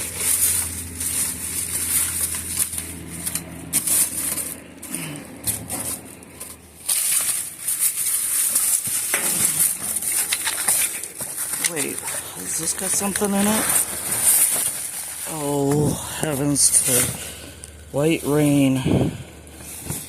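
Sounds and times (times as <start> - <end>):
airplane drone overhead: 0.0 - 20.0
rubbish rustling in a dumpster: 0.0 - 20.0.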